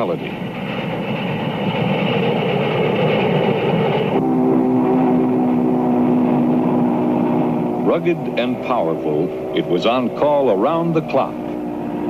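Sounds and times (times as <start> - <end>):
steam locomotive exhaust: 0.0 - 12.0.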